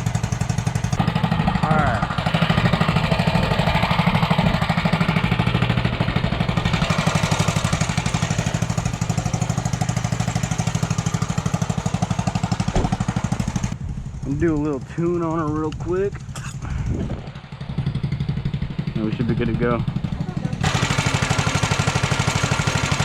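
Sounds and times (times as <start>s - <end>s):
minibike engine running: 0.0s - 23.0s.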